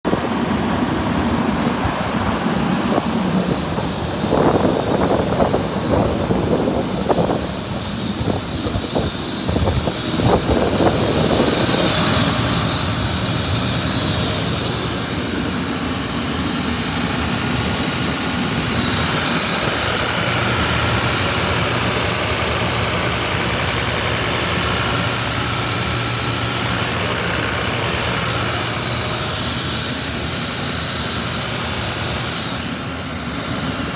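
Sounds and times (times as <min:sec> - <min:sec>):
diesel air compressor engine: 0:00.1 - 0:33.9.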